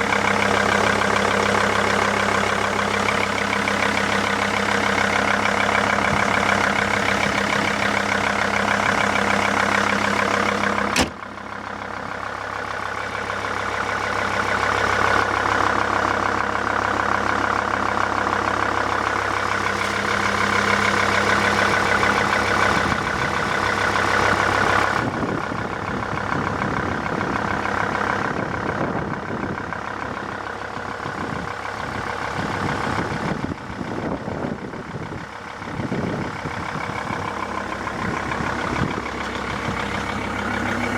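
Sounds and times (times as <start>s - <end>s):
car engine running with knock: 0.0s - 40.9s.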